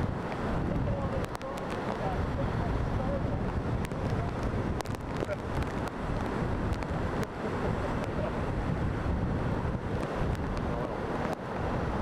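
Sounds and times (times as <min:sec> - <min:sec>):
waves crashing around pier: 0:00.0 - 0:12.0
wind buffeting microphone: 0:00.0 - 0:12.0.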